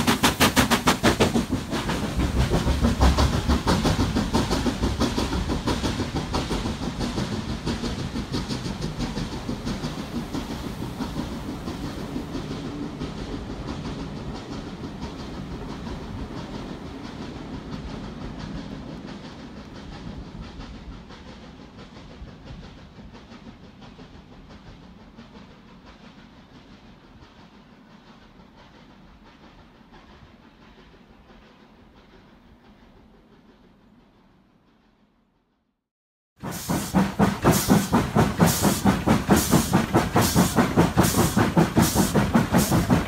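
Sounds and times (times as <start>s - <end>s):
train wheels clattering over rail joints: 0.0s - 34.2s, 36.4s - 43.0s.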